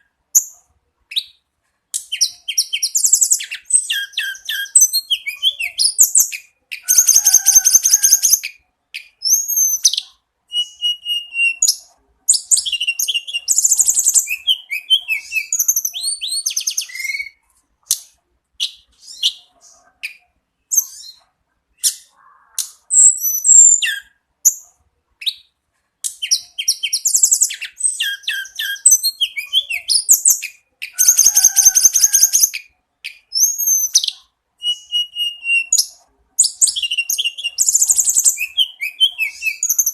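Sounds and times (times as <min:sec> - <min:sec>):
bird singing trills and whistles: 0:02.0 - 0:39.9.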